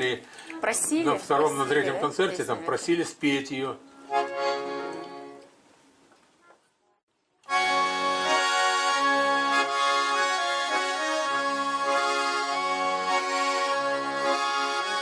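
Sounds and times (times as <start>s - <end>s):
accordion playing: 0.6s - 5.5s, 7.5s - 15.0s.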